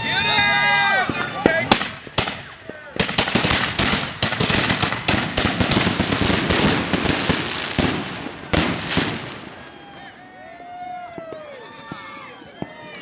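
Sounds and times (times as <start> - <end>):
fireworks bangs and crackling: 0.0 - 10.4, 11.1 - 13.0.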